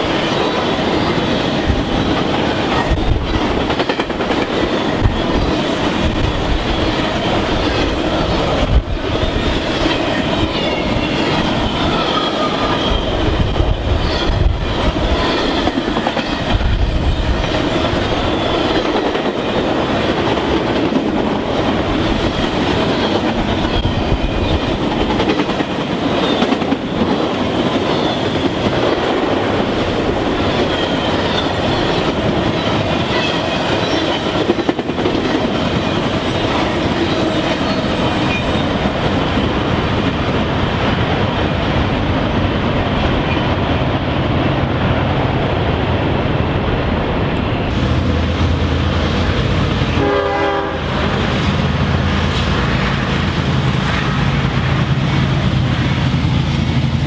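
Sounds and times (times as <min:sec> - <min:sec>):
freight train cars rumbling past: 0:00.0 - 0:57.0.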